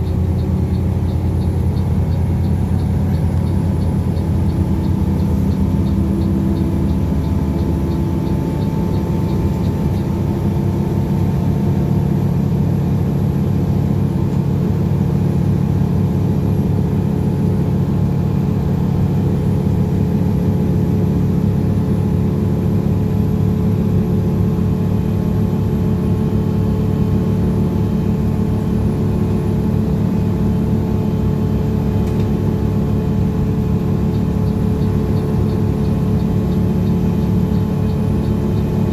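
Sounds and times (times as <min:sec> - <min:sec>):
diesel engine running: 0:00.0 - 0:38.9
road noise: 0:00.0 - 0:38.9.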